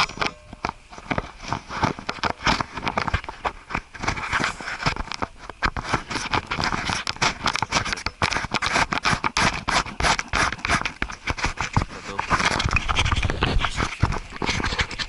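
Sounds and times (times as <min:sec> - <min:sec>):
scratching and tapping on microphone: 0:00.0 - 0:15.0.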